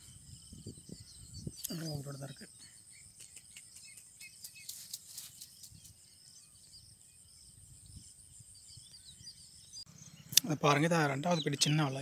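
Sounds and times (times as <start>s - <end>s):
faint bird chirps: 0.0s - 12.0s
insects chirring: 0.0s - 12.0s.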